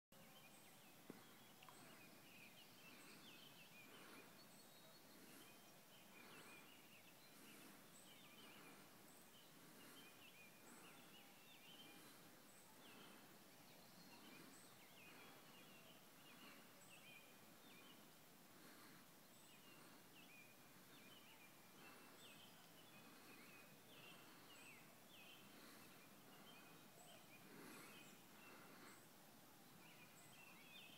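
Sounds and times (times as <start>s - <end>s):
background hiss: 0.2s - 30.9s.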